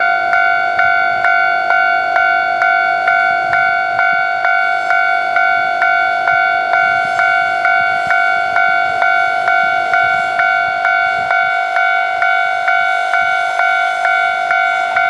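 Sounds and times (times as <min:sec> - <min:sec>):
level-crossing warning bell ringing: 0:00.0 - 0:15.0.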